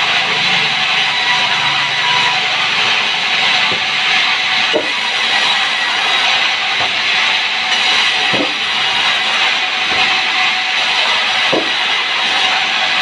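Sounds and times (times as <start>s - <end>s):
band saw cutting wood: 0.0s - 13.0s.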